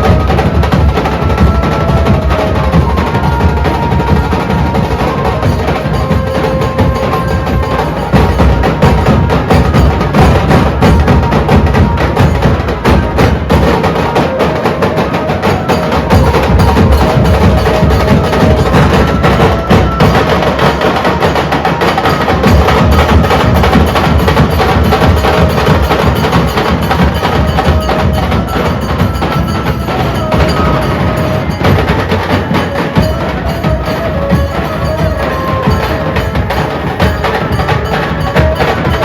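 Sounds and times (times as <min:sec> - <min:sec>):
drum group playing rapid beat: 0:00.0 - 0:39.0.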